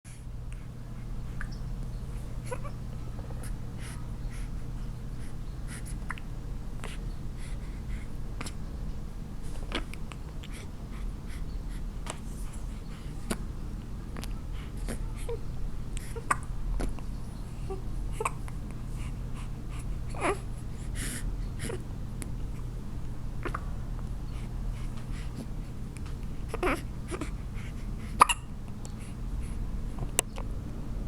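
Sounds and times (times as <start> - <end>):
steady low hum: 0.1 - 31.0.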